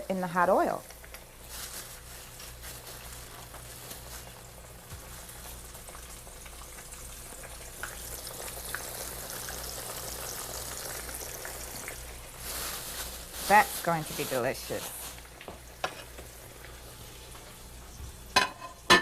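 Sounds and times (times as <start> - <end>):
fish deep-frying in hot oil: 0.0 - 19.0.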